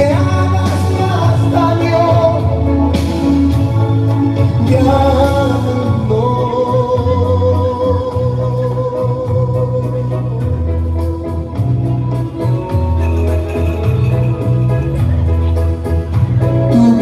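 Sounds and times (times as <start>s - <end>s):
dance music from a loudspeaker: 0.0s - 17.0s
repeating bass line: 0.0s - 17.0s.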